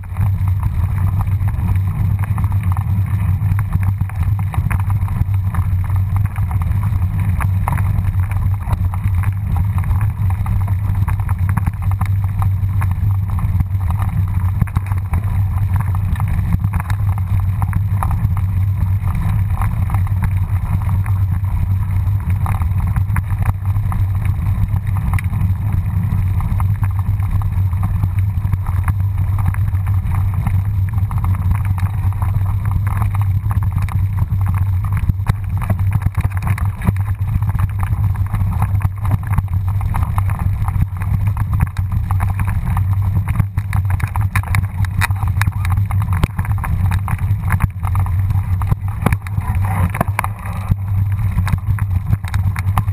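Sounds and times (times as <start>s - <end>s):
bike rattling over loose stones: 0.0s - 52.9s.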